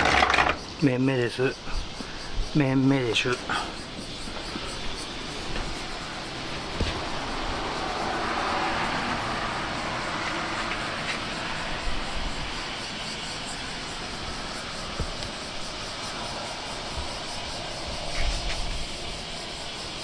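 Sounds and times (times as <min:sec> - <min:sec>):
heavy surf: 0:00.0 - 0:20.0
strong wind rushing: 0:00.6 - 0:20.0
wind buffeting microphone: 0:00.6 - 0:20.0.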